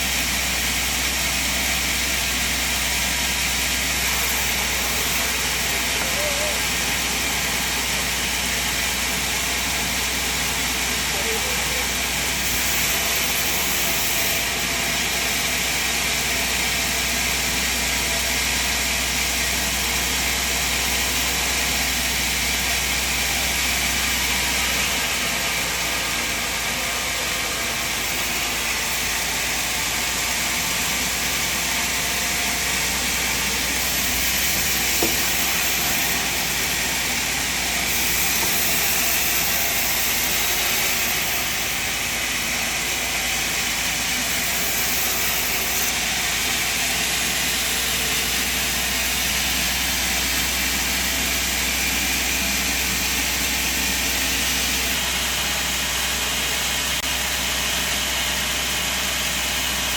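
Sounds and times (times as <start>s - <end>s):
sawmill machine running: 0.0s - 59.9s.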